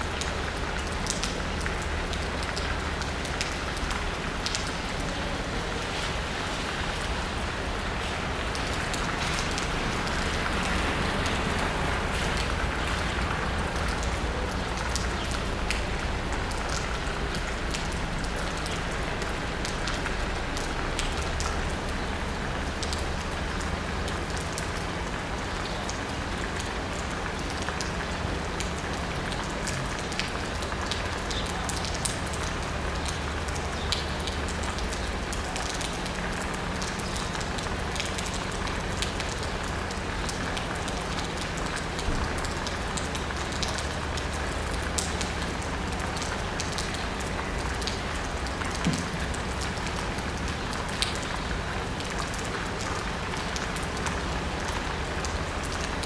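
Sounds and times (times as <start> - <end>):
rain pattering on asphalt: 0.0 - 56.0.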